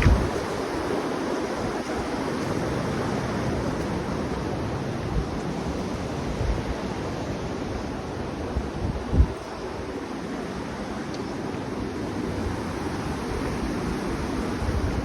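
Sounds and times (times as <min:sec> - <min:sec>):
wind buffeting microphone: 0:00.0 - 0:10.1, 0:11.8 - 0:15.0
wind blowing: 0:00.0 - 0:15.0.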